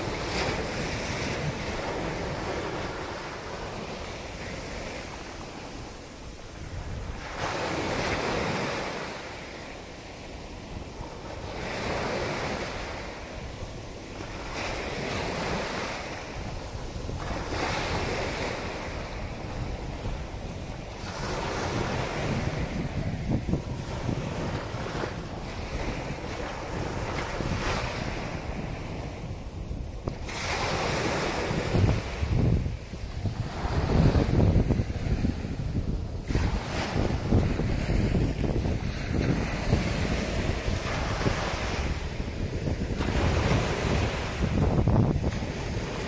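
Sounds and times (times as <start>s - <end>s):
surf breaking on sand: 0.0s - 46.0s
wind buffeting microphone: 0.0s - 46.0s.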